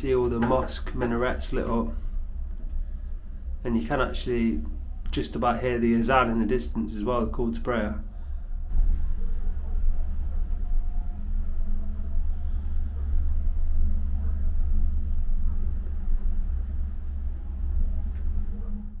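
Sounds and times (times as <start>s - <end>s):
cable car gondola rumble: 0.0s - 19.0s.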